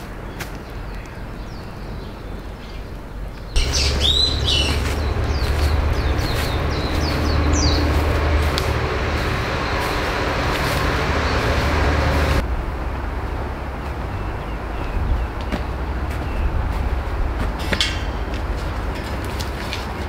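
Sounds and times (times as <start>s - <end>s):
birds chirping: 0.0s - 12.4s, 13.3s - 20.0s
steady low rumble: 3.1s - 20.0s.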